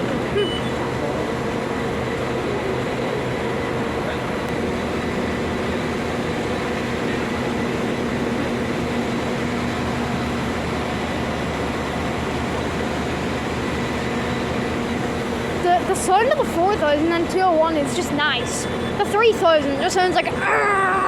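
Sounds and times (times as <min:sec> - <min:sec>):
diesel trains idling: 0:00.0 - 0:21.0.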